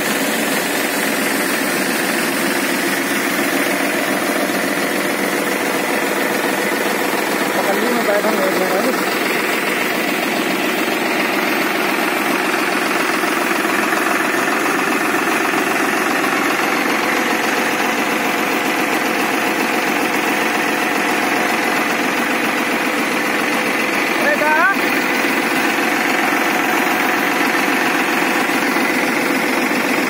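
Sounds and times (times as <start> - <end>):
machinery noise: 0.0 - 30.0
tractor diesel engine running: 0.0 - 30.0.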